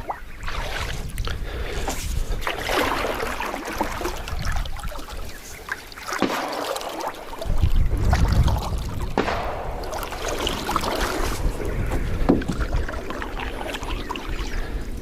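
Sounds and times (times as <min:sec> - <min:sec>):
water sloshing around hull: 0:00.0 - 0:15.0.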